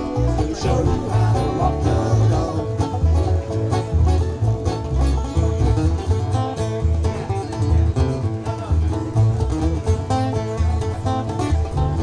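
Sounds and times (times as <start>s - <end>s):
acoustic guitars picking: 0.0s - 12.0s
banjo: 0.0s - 12.0s
mandolin: 0.0s - 12.0s
upright bass line: 0.0s - 12.0s.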